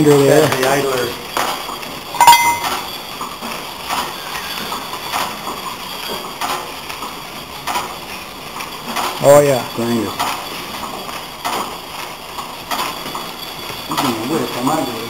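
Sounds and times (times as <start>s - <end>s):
belt-driven grinder running: 0.0s - 15.0s.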